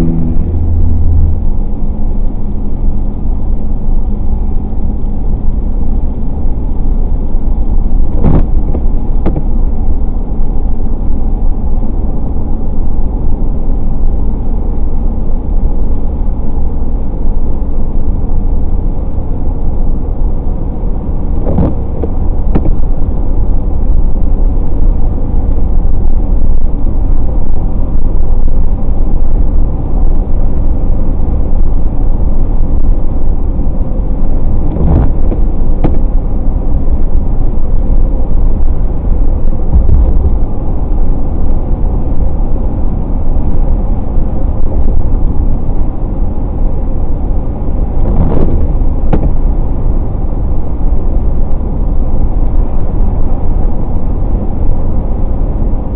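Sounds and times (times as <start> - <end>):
car road noise on wet highway: 0.0 - 55.9.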